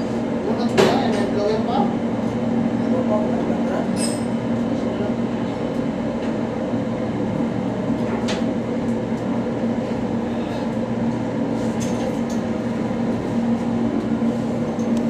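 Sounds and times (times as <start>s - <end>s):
machinery humming drone: 0.0s - 15.0s.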